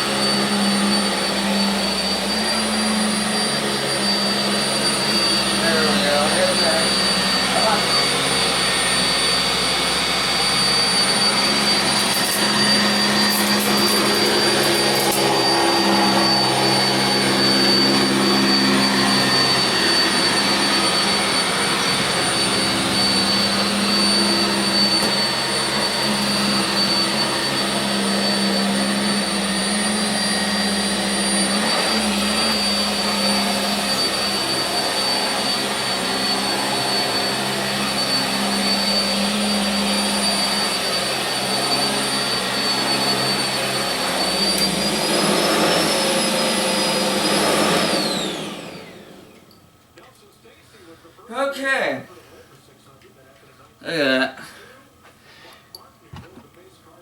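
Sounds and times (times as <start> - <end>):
upright vacuum running on carpet: 0.0 - 49.6.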